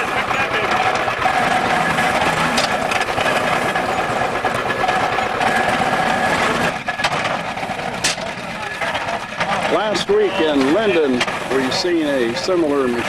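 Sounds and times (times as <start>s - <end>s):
hay baler clattering: 0.0s - 13.0s
machine whine: 0.0s - 13.0s.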